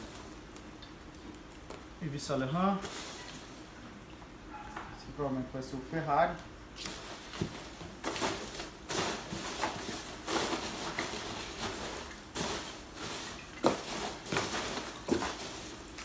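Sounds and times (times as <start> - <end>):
packing peanuts rustling: 0.0 - 3.6, 6.8 - 16.0.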